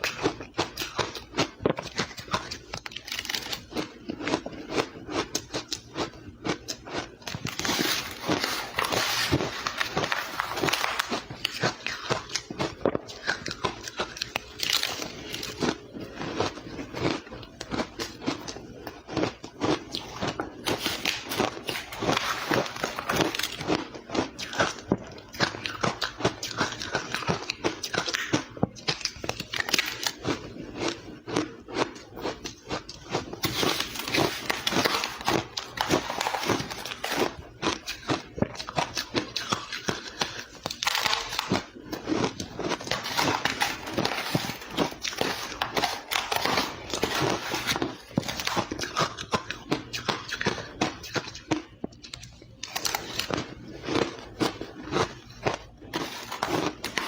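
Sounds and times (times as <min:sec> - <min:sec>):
ice crunching in mouth: 0:00.0 - 0:57.0.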